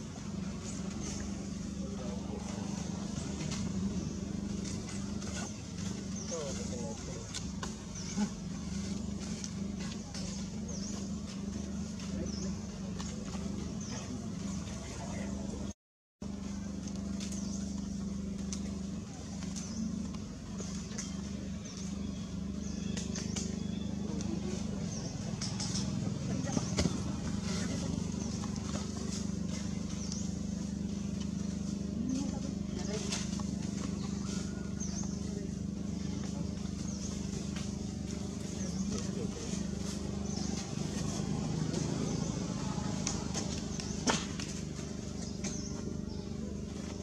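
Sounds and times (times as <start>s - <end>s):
low motor hum: 0.0s - 47.0s.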